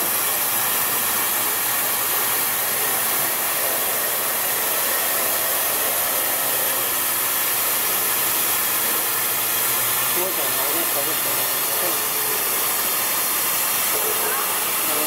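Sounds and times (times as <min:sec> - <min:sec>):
laser cutter air hiss: 0:00.0 - 0:15.0.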